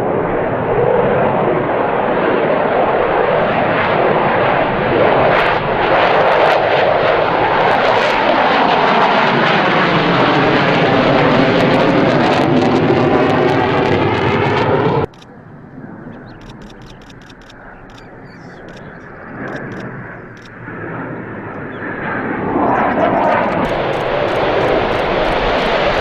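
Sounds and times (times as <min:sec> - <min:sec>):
fighter jet engines roaring: 0:00.0 - 0:26.0.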